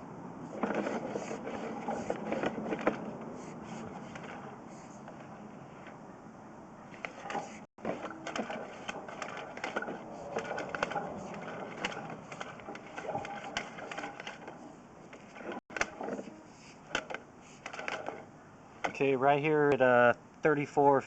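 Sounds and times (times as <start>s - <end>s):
camera cable clicking and scraping in drain: 0.5s - 6.0s, 6.9s - 19.0s.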